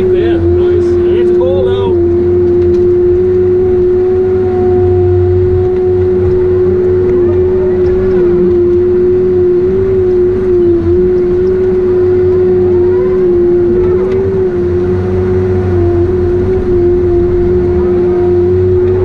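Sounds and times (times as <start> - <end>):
heavy diesel machine droning: 0.0 - 19.0.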